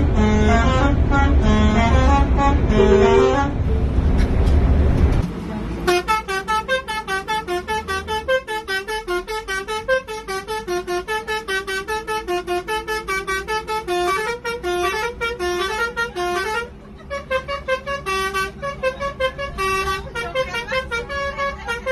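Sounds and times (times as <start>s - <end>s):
musical vehicle horn tune: 0.0s - 3.8s, 5.8s - 21.9s.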